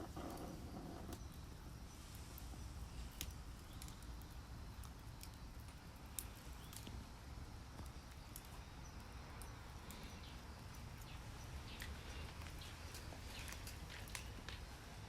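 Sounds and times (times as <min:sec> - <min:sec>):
sharp pops from fire: 0:00.0 - 0:14.9
wood fire crackling: 0:00.0 - 0:15.0.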